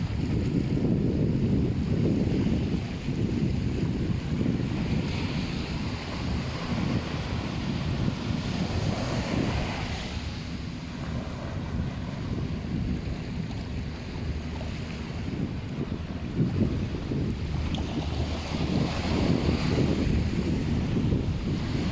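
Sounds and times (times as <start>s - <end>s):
surf washing on beach: 0.0s - 21.9s
wind buffeting microphone: 0.0s - 21.9s.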